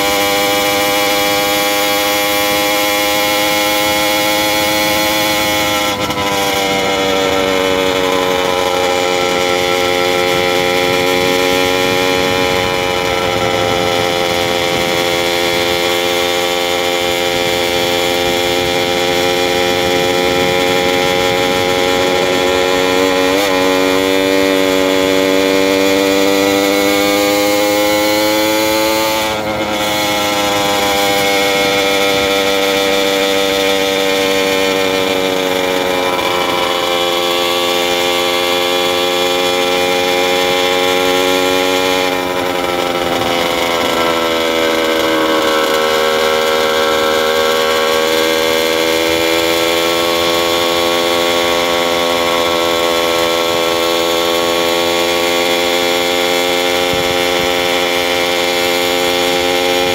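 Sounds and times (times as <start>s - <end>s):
small bicycle engine running: 0.0s - 59.9s
wind and road noise: 0.0s - 59.9s.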